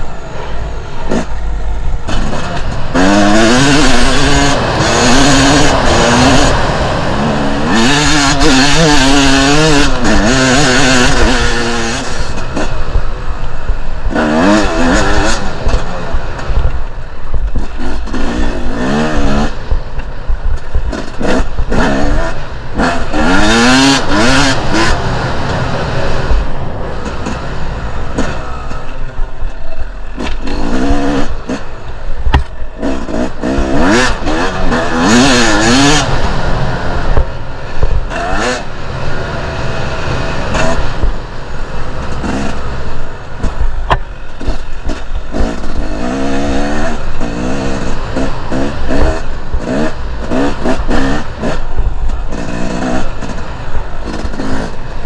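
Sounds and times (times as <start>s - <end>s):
dirt bike engine revving: 0.0s - 55.0s
wind rushing: 1.1s - 45.4s.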